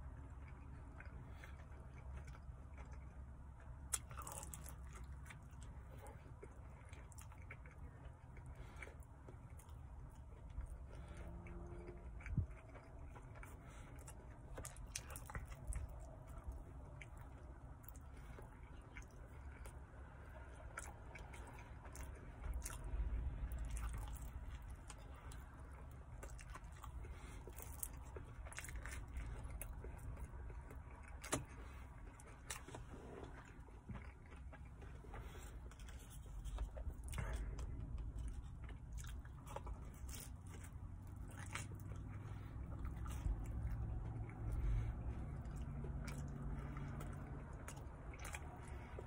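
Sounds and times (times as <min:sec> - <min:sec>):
low steady rumble: 0:00.0 - 0:49.0
person chewing food: 0:00.0 - 0:49.0.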